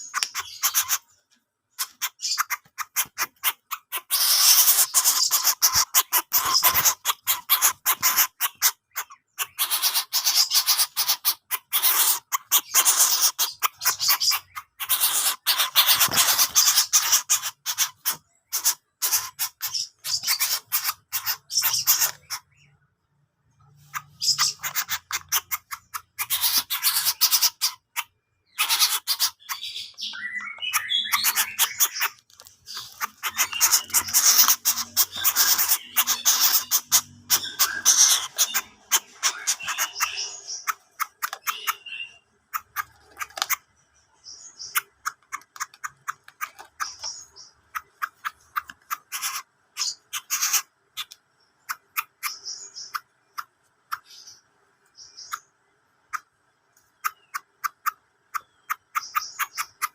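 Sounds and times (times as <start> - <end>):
bird harsh rasping calls: 0.0 - 22.8, 23.5 - 56.3, 57.0 - 59.9.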